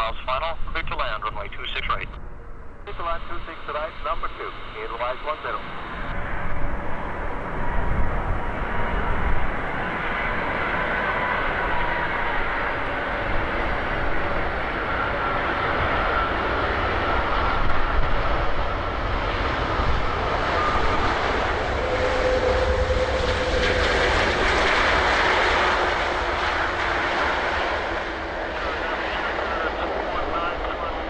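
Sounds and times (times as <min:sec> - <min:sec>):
jet engines rushing with whine: 0:00.0 - 0:31.0.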